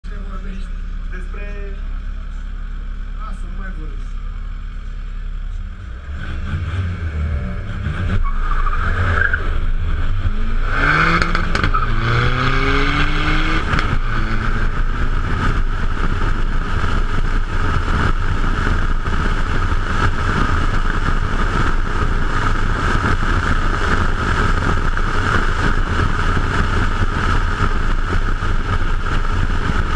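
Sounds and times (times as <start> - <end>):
car engine accelerating: 0.0 - 29.9
wind and tyre roar: 0.0 - 29.9.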